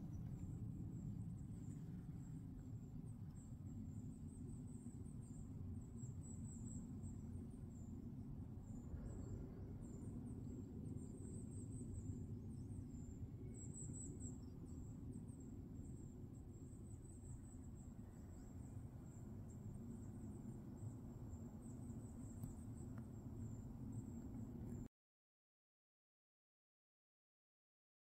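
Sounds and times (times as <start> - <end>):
low rumble of wind: 0.0 - 24.9.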